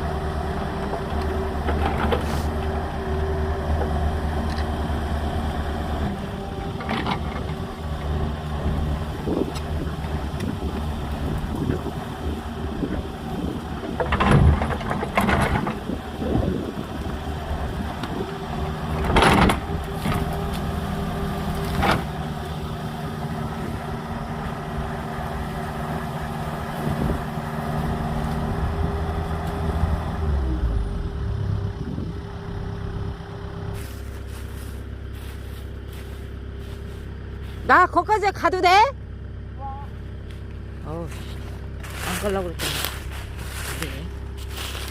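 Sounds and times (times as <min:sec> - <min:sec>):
excavator engine running: 0:00.0 - 0:44.9.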